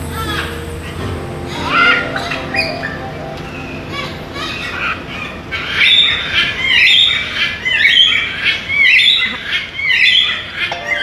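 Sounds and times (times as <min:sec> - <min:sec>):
macaw squawking: 0:01.5 - 0:11.0.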